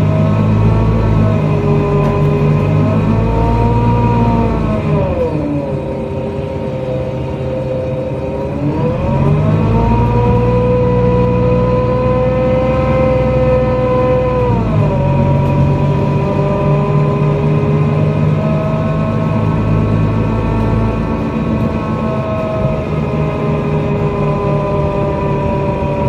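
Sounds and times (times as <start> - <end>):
bus drivetrain whine: 0.0 - 26.0
low engine rumble: 0.0 - 26.0.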